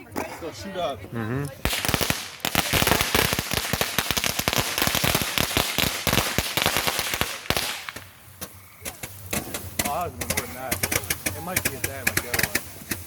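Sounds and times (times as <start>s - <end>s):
firecracker cracks: 1.6s - 13.0s.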